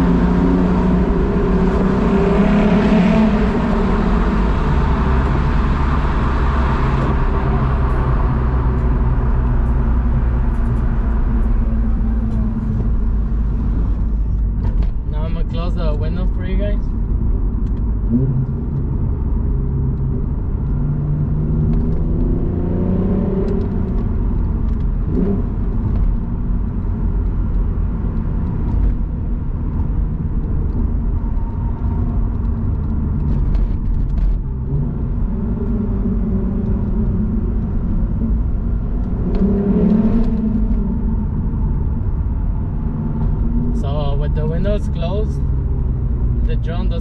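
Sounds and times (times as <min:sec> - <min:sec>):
car engine heard from cabin: 0:00.0 - 0:47.0.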